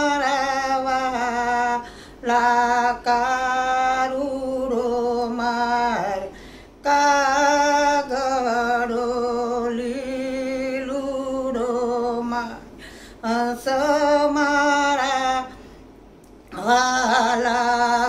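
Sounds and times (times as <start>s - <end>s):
woman singing devotional song: 0.0s - 15.7s, 16.5s - 18.0s.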